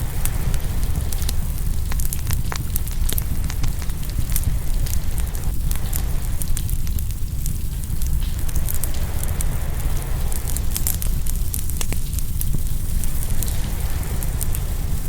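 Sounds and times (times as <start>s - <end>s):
waves washing on shore: 0.0s - 6.8s, 8.3s - 15.0s
wood fire crackling: 0.0s - 15.0s.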